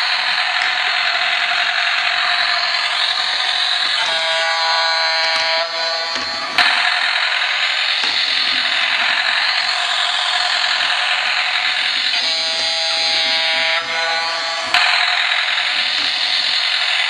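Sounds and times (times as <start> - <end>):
toy buzzing hiss: 0.0 - 17.0
toy click: 0.0 - 17.0.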